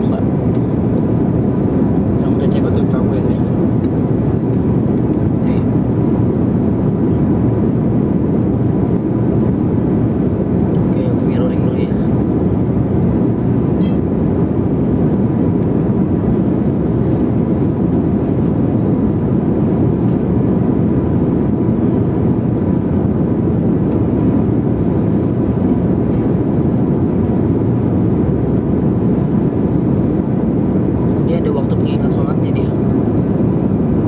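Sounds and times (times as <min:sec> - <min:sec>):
airliner engine and airflow noise: 0:00.0 - 0:34.0.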